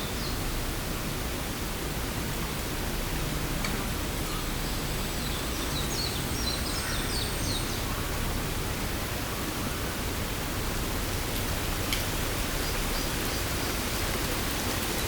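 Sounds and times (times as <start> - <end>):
rushing flowing water: 0.0 - 15.0.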